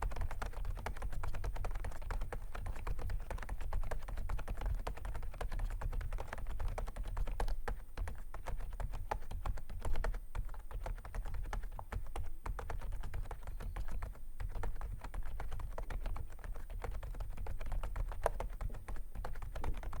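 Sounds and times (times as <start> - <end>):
mechanical keyboard typing: 0.2 - 20.0.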